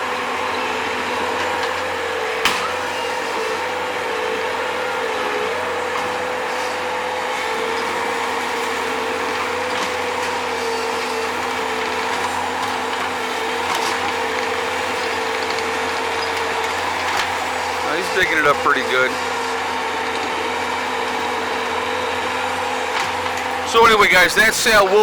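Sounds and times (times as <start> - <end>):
skid-steer loader engine whine: 0.0 - 25.0.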